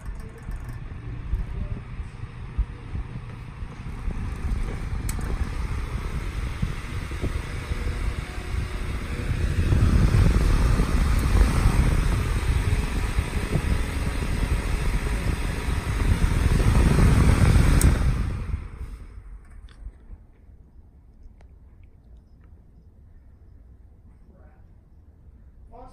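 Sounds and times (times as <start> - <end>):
desk fan air rumble: 0.0 - 21.7.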